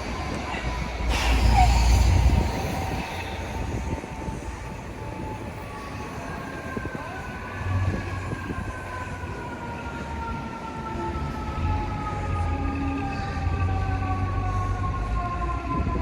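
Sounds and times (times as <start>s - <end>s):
faint high siren: 0.0s - 16.0s
street traffic rumble: 0.0s - 16.0s.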